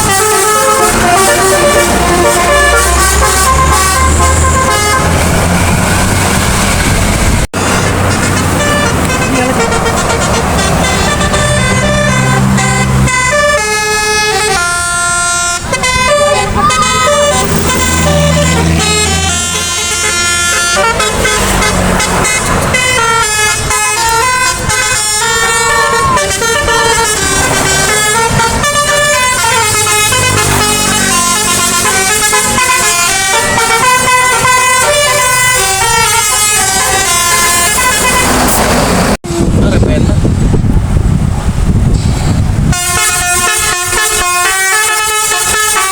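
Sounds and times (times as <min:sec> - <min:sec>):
musical air horn melody: 0:00.0 - 0:06.0, 0:07.6 - 0:39.1, 0:42.7 - 0:45.9
bus engine running: 0:00.0 - 0:45.9.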